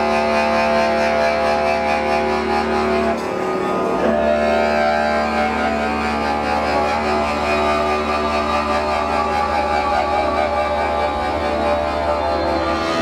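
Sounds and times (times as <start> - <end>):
droning instrumental music: 0.0 - 13.0
steady low hum: 0.0 - 13.0.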